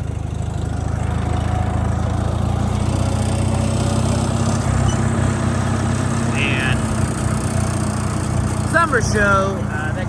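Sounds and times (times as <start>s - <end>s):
small engine running steadily: 0.0s - 10.0s.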